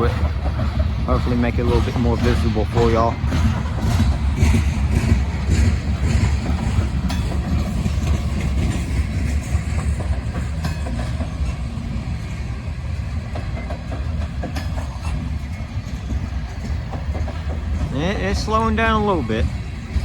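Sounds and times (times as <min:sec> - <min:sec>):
train wheels rumbling on rail: 0:00.0 - 0:20.0
wheels clacking over rail joints: 0:00.0 - 0:20.0.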